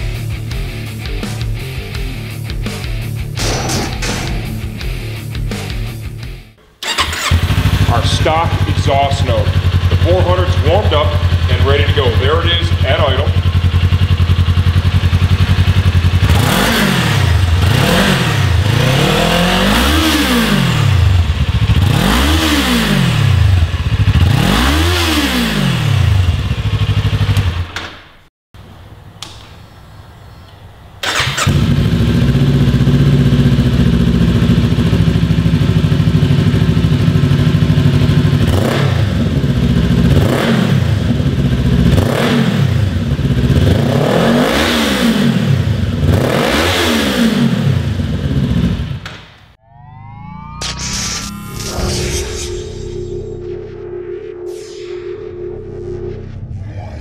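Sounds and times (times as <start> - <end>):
motorcycle engine idling and revving: 0.0 - 27.8, 31.0 - 49.2.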